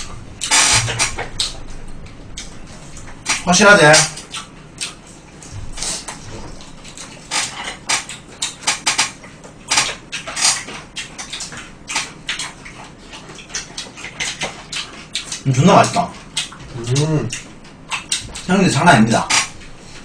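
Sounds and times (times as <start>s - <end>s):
crunchy chewing: 0.0s - 18.5s.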